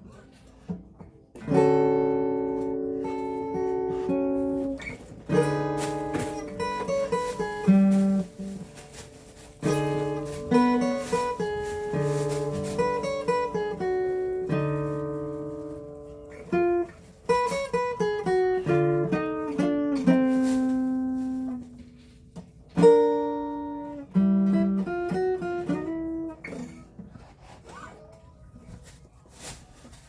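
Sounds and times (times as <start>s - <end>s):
acoustic guitar playing: 0.0s - 28.7s.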